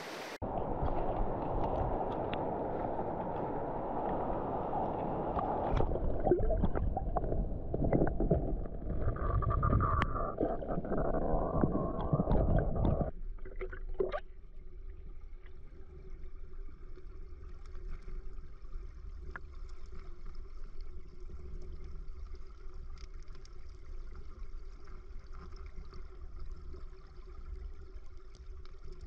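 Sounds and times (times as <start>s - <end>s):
stream water running: 0.0s - 29.0s.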